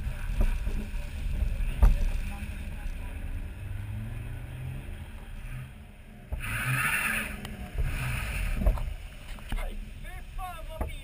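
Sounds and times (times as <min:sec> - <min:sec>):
diesel engine low hum: 0:00.0 - 0:10.4.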